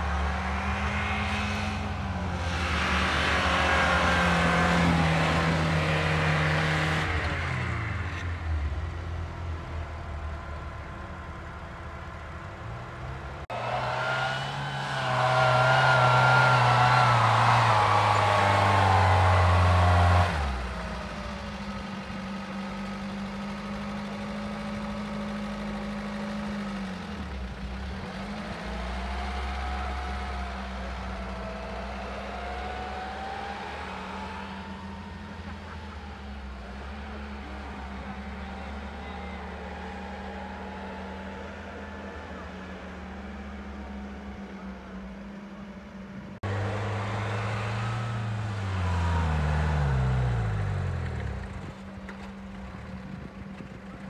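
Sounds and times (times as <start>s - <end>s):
off-road vehicle engine under load: 0.0s - 54.0s.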